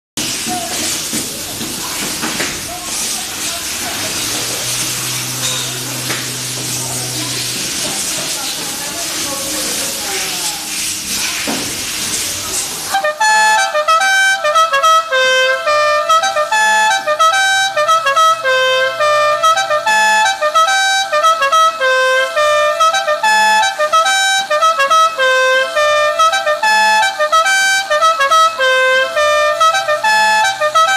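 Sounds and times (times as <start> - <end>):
musical air horn tune: 2.6 - 11.4, 12.2 - 30.9.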